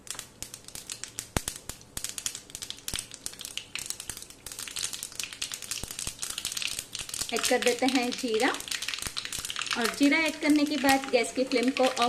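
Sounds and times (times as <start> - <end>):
oil sizzling: 0.0 - 12.0
seeds popping in hot oil: 0.0 - 12.0.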